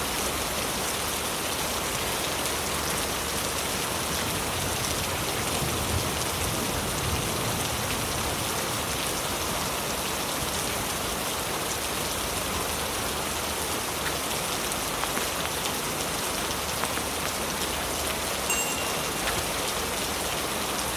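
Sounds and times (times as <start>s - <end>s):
heavy rain on leaves: 0.0s - 20.9s
raindrops pattering: 0.1s - 20.9s.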